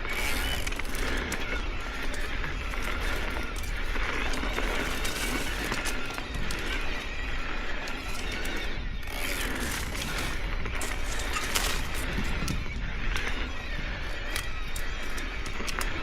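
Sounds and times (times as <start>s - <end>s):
bike clicking and rattling: 0.0s - 16.0s
bike tyres crunching over gravel: 0.0s - 16.0s
low wind rumble: 0.0s - 16.0s.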